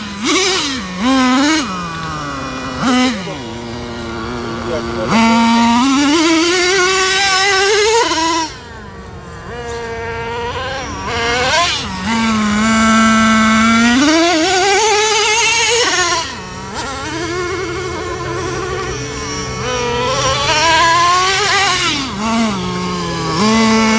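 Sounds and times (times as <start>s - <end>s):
small nitro engine revving: 0.0s - 23.9s.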